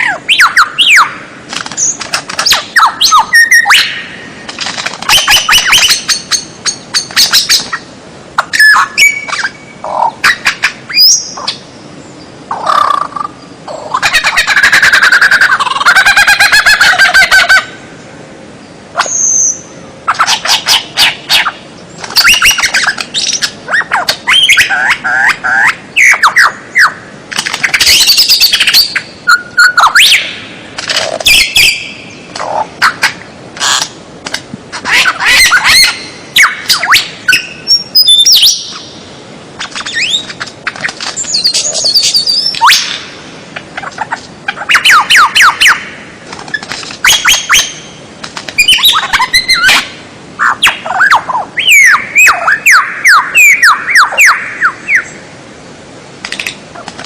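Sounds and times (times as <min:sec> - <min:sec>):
songbird singing: 0:00.0 - 0:55.5.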